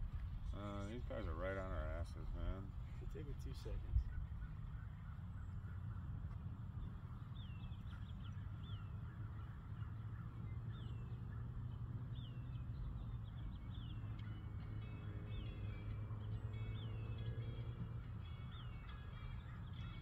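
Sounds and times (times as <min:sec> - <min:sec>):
bird chirping: 0:00.0 - 0:20.0
low outdoor rumble: 0:00.0 - 0:20.0.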